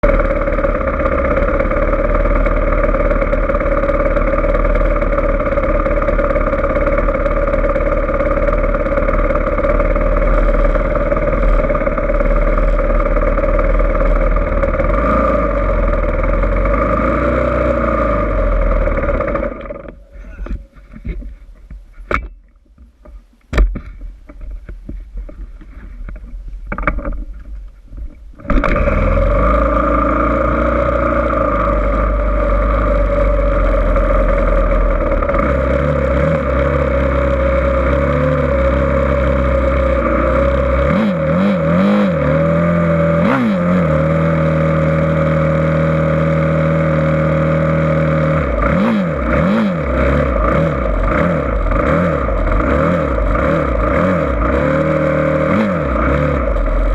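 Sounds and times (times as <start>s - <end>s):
dirt bike engine revving: 0.0s - 21.3s, 28.4s - 56.9s.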